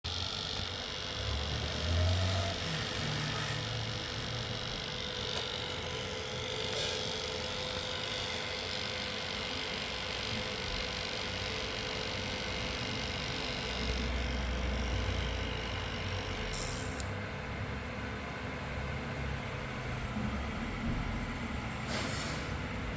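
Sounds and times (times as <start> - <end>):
cooler fan humming and whining: 0.1 - 22.9.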